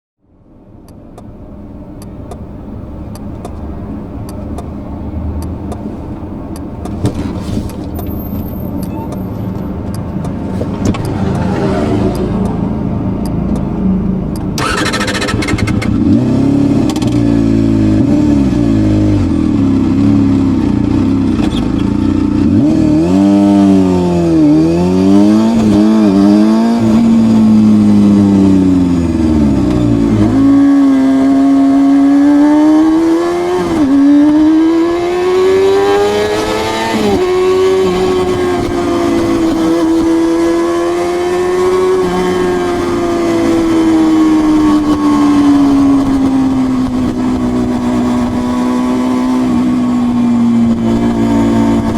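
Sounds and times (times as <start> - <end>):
motorcycle engine revving: 9.7 - 51.9.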